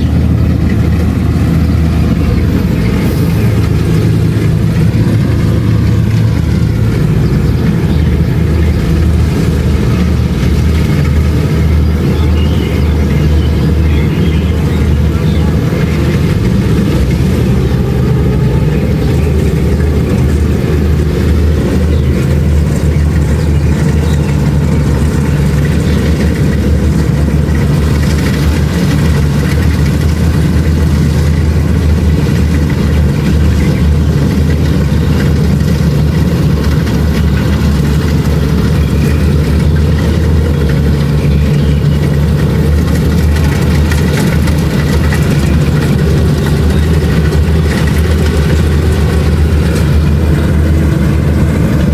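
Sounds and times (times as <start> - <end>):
combine harvester diesel engine: 0.0 - 51.9.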